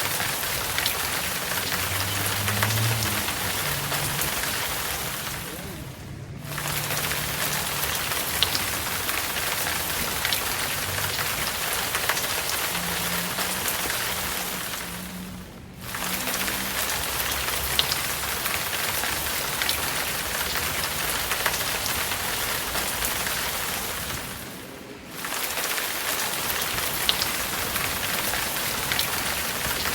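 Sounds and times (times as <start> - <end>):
raindrops ticking: 0.0 - 29.9
steady rain hissing: 0.0 - 29.9.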